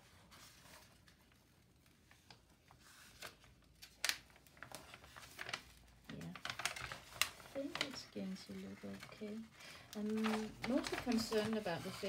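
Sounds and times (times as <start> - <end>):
paper rustling and crackling: 0.0 - 12.0.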